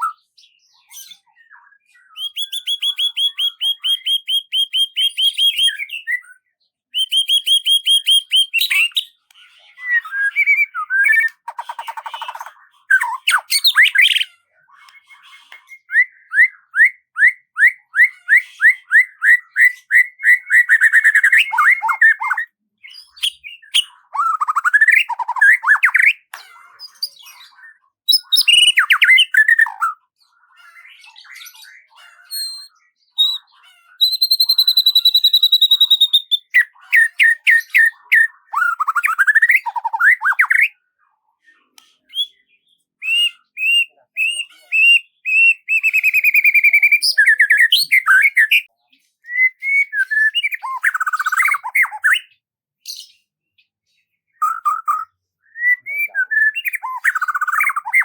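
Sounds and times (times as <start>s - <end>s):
songbird singing: 0.0s - 40.8s, 41.6s - 53.8s, 54.4s - 58.0s.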